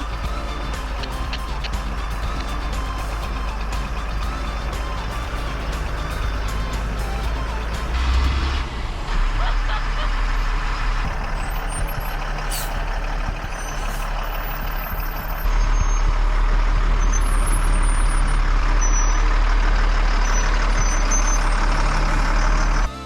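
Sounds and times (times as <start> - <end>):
truck diesel engine under load: 0.0 - 23.0.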